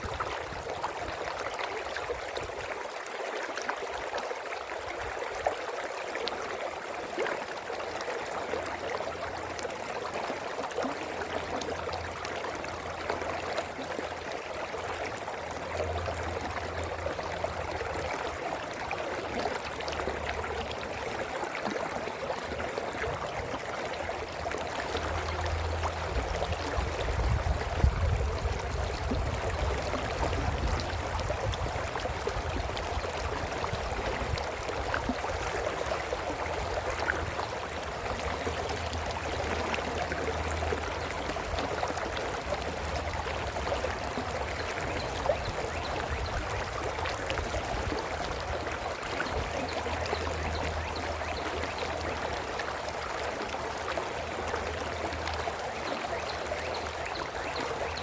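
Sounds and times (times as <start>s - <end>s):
brook babbling over rocks: 0.0s - 58.0s.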